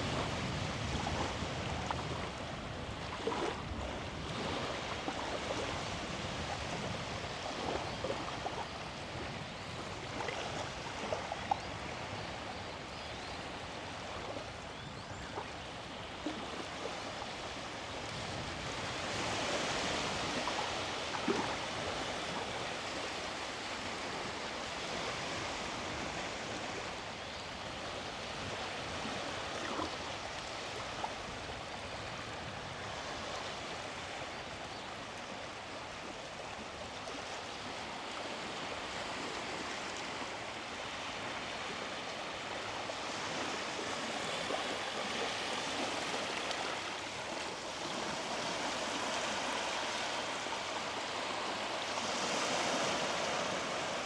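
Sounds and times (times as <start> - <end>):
small waves washing onto beach: 0.0 - 54.0.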